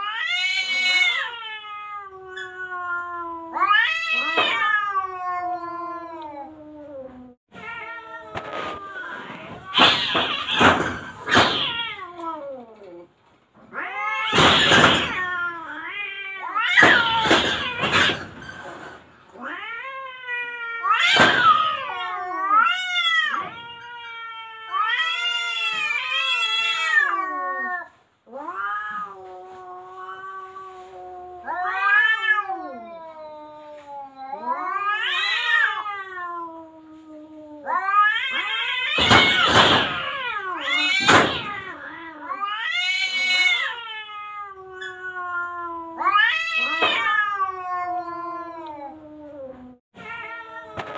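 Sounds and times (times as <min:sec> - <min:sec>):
cats hissing: 0:00.0 - 0:50.9
cats yowling: 0:00.0 - 0:50.9.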